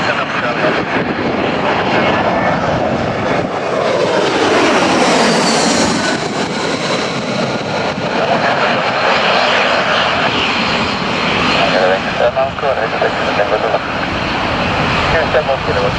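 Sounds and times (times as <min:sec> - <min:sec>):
aircraft engine passing: 0:00.0 - 0:15.9.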